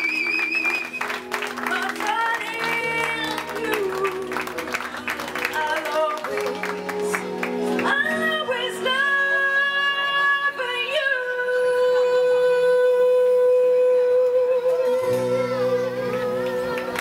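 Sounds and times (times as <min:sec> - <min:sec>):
backing music: 0:00.0 - 0:17.0.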